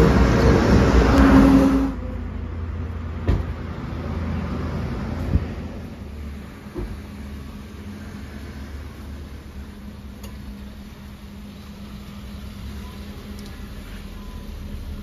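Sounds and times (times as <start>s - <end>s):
car engine idling: 1.9s - 15.0s.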